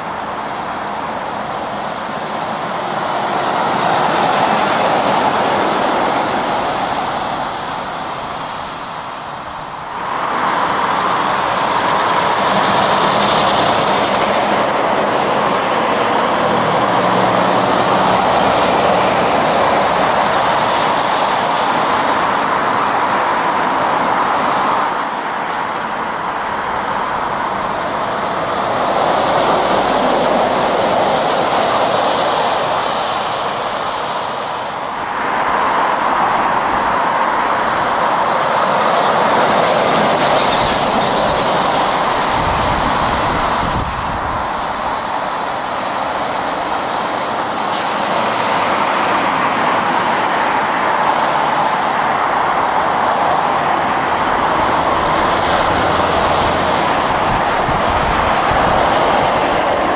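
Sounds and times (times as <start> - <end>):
traffic on wet road: 0.0 - 59.9.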